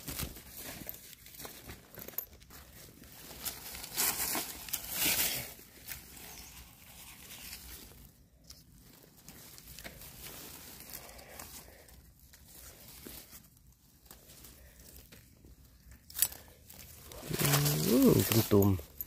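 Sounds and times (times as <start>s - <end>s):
dry leaves rustling and crackling: 0.0s - 19.0s.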